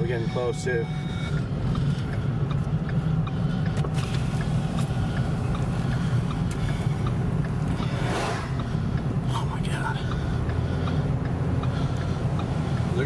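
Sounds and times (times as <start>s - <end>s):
road and engine rumble: 0.0s - 13.0s
faint ticks: 1.4s - 13.0s.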